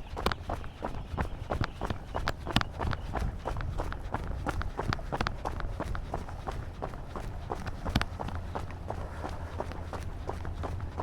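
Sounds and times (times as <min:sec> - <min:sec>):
runner's footsteps: 0:00.0 - 0:11.0.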